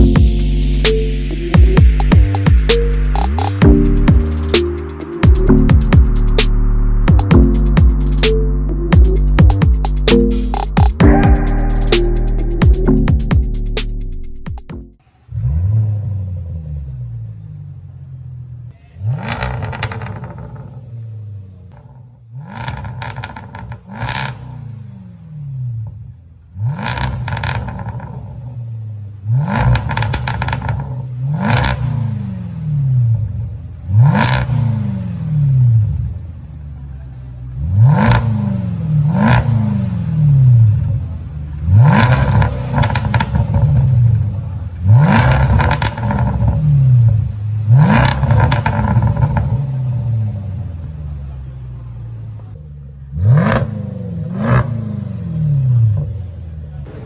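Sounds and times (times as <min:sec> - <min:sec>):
car engine revving: 0:00.0 - 0:57.0
exhaust crackles: 0:00.0 - 0:57.0.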